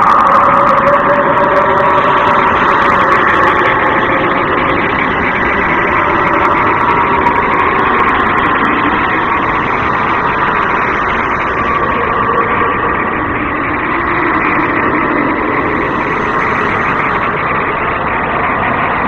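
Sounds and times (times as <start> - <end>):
dense rumbling drone: 0.0 - 19.0.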